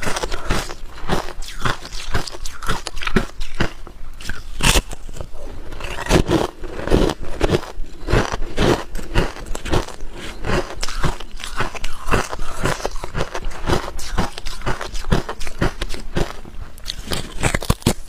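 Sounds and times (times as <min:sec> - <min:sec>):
ice crunching being chewed: 0:00.0 - 0:18.0.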